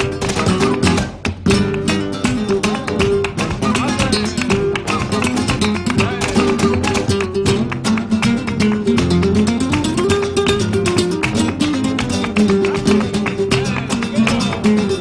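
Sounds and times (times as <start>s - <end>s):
cajon rhythm: 0.0s - 15.0s
flamenco guitar playing: 0.0s - 15.0s.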